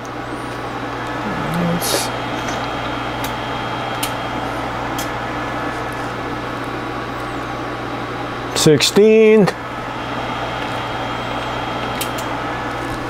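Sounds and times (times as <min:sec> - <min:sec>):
electrical hum and fan whir: 0:00.0 - 0:13.0.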